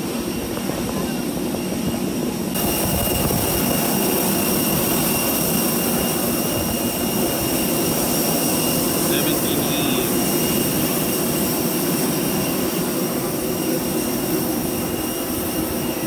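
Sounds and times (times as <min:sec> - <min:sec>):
jet engine rumble and whine: 0:00.0 - 0:16.0.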